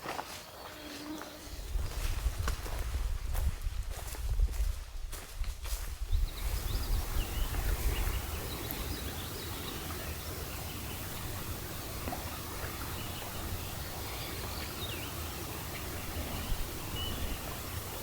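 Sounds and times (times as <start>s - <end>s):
wind rumble on microphone: 1.5s - 18.0s.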